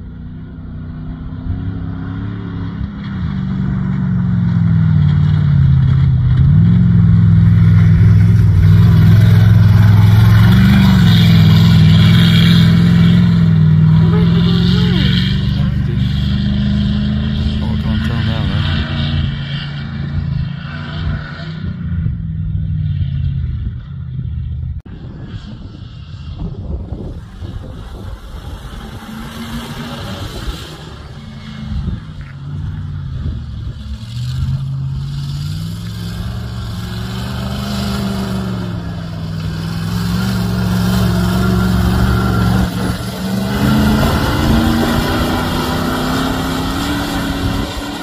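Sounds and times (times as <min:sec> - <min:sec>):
off-road vehicle engine revving: 0:00.0 - 0:23.9, 0:26.4 - 0:48.0.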